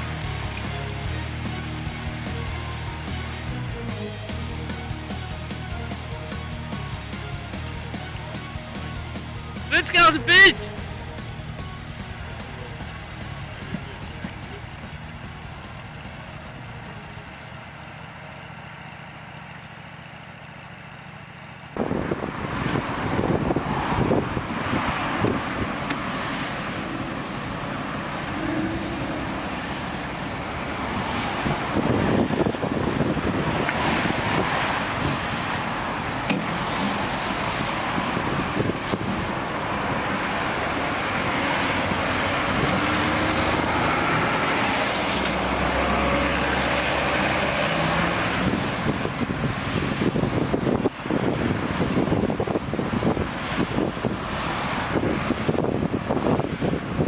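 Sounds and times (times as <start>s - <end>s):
construction machinery engine: 0.0s - 57.0s.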